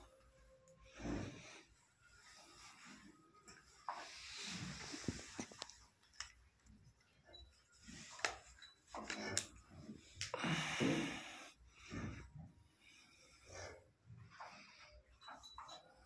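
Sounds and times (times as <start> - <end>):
cattle breathing and snorting: 0.8 - 5.9, 7.3 - 15.9.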